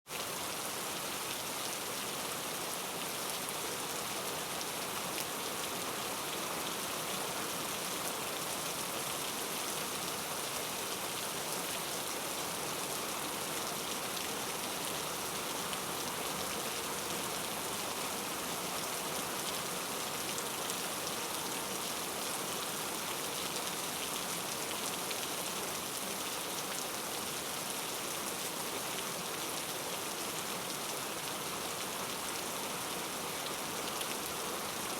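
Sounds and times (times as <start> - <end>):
steady rain hiss: 0.2 - 34.9.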